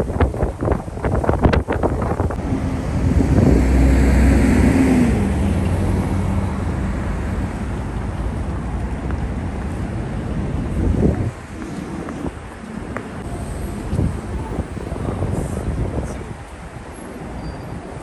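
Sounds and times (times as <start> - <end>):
street traffic: 0.0 - 18.0
wind buffeting microphone: 0.0 - 18.0
bus passing by: 2.2 - 18.0.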